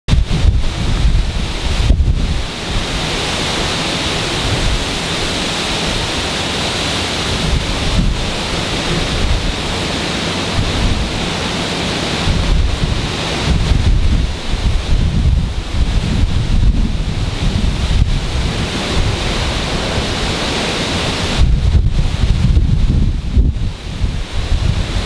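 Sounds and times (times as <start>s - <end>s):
strong wind and heavy rain: 0.1s - 25.0s
wind buffeting microphone: 0.1s - 25.0s.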